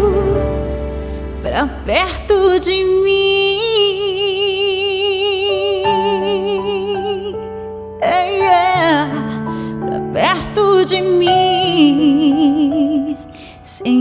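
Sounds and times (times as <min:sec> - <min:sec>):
woman singing gospel: 0:00.0 - 0:07.4, 0:08.0 - 0:14.0
sustained backing chords: 0:00.0 - 0:13.4.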